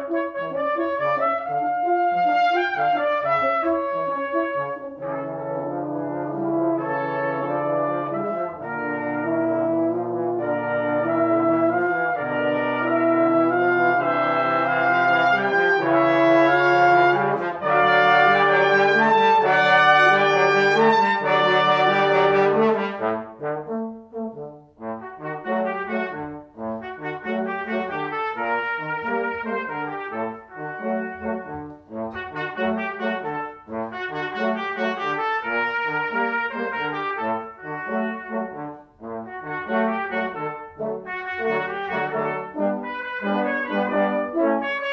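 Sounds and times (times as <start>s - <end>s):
brass quintet playing: 0.0s - 44.9s.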